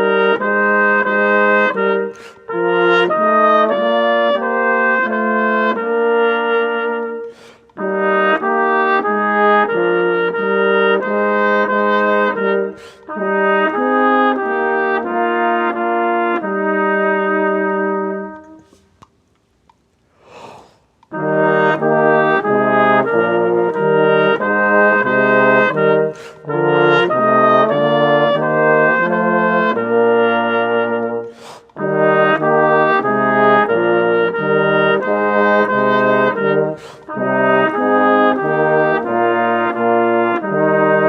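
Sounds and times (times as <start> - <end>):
brass ensemble playing chords: 0.0 - 18.8, 21.1 - 41.0.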